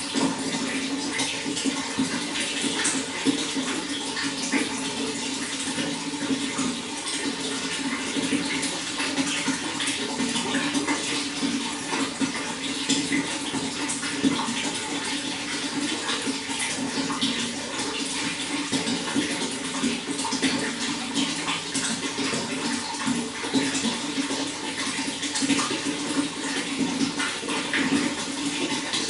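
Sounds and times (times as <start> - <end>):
running water rushing and gurgling: 0.0 - 29.0.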